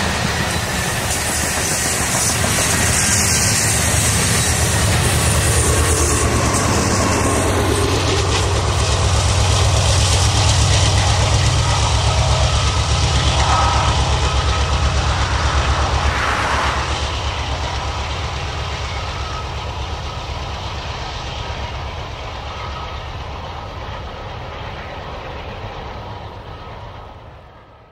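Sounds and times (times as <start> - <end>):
diesel locomotive engine throbbing: 0.0 - 27.8.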